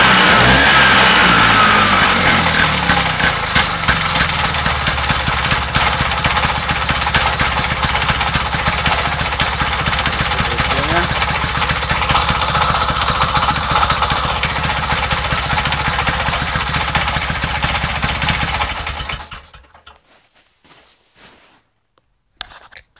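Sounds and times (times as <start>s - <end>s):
quad bike engine running: 0.0s - 19.9s.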